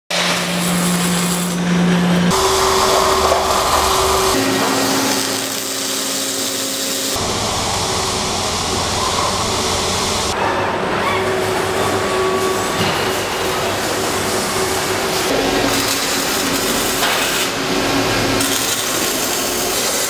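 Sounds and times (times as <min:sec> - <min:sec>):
welding machine hissing: 0:00.1 - 0:10.4, 0:11.8 - 0:20.0
machine hum: 0:00.1 - 0:20.0.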